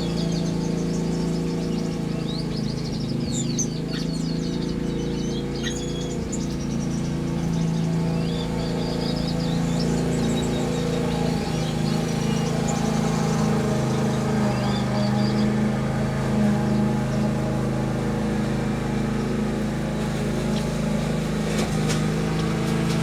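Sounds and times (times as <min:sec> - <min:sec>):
low mechanical hum: 0:00.0 - 0:23.0
small birds chirping: 0:00.0 - 0:23.0.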